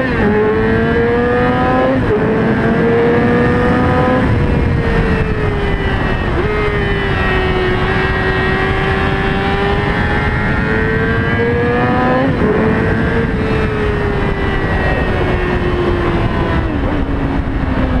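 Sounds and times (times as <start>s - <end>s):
wind rush: 0.0s - 18.0s.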